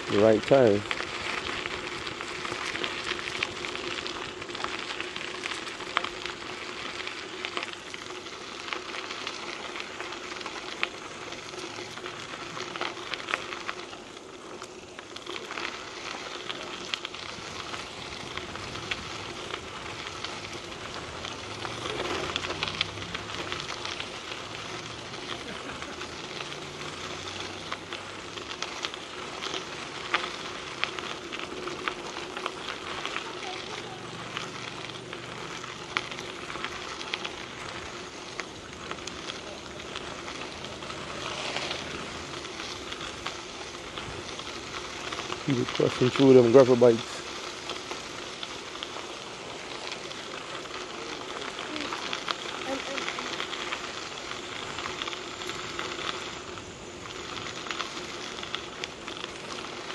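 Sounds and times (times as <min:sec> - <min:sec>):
bike tyres crunching over gravel: 0:00.0 - 0:59.9.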